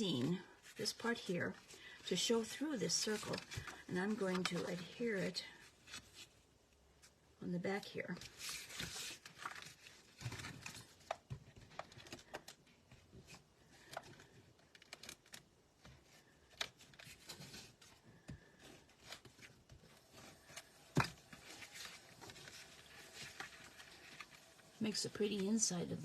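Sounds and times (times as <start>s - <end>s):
paper rustling: 2.2s - 6.4s, 8.2s - 25.7s.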